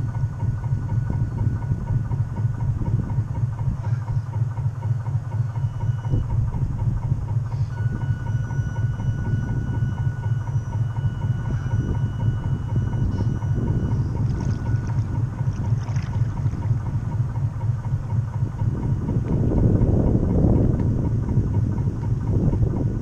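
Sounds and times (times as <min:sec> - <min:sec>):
model boat motor throbbing: 0:00.0 - 0:23.0.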